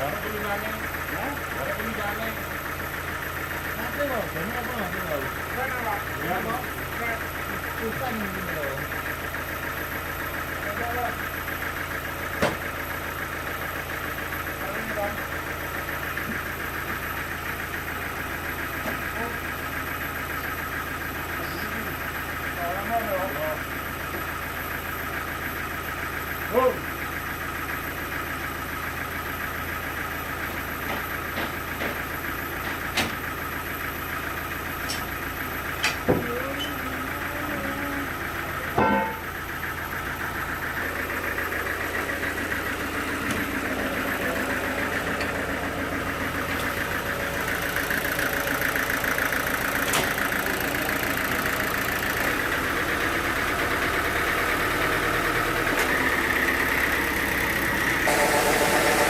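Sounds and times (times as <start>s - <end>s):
sawmill machinery engine running: 0.0s - 59.0s.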